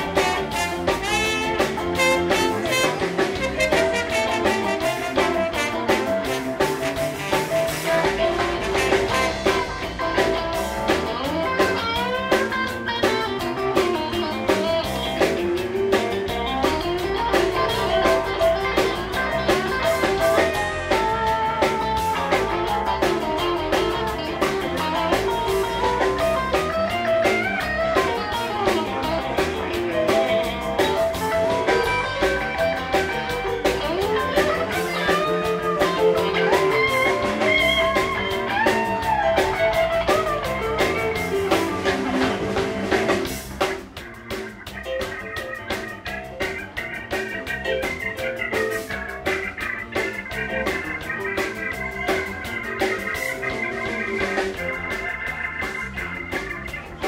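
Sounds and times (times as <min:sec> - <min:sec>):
guitar: 0:00.0 - 0:57.0
live blues band: 0:00.0 - 0:57.0.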